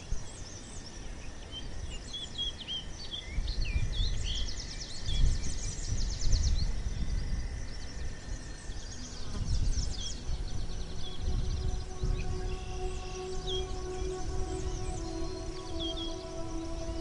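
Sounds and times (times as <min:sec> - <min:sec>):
small birds chirping and trilling: 0:00.0 - 0:17.0.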